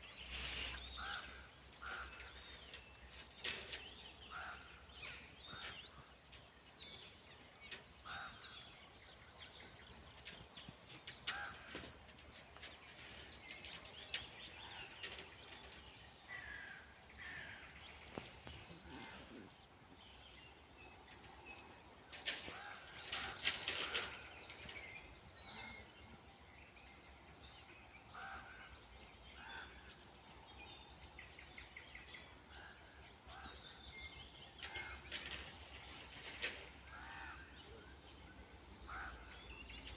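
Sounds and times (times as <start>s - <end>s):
birds calling and chirping: 0.0s - 39.9s.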